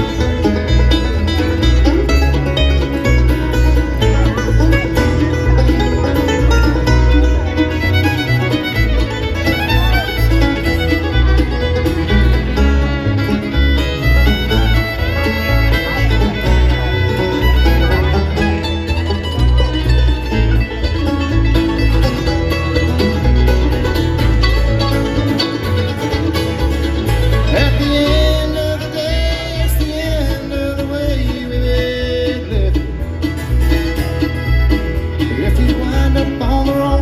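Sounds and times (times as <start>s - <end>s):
bluegrass band playing: 0.0s - 37.0s.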